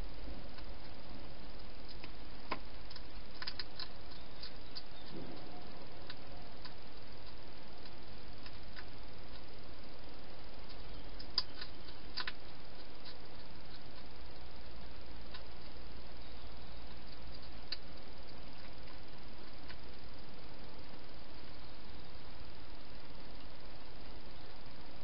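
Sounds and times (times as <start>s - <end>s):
steady hiss: 0.0s - 25.0s
hedgehog eating clicks and crunches: 0.4s - 21.5s.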